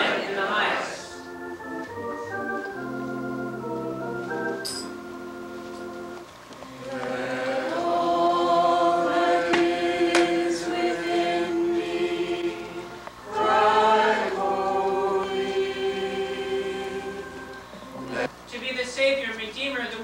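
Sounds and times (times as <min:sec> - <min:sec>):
church choir singing: 0:00.0 - 0:18.3.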